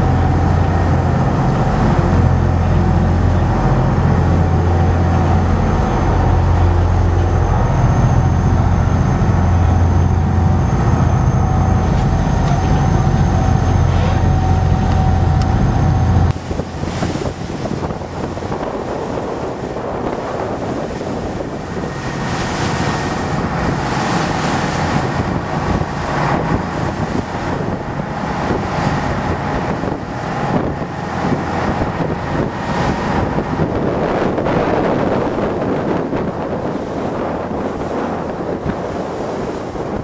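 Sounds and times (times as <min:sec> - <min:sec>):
motorboat engine drone: 0:00.0 - 0:40.0
water rushing from wake: 0:00.0 - 0:40.0
wind buffeting microphone: 0:00.0 - 0:40.0.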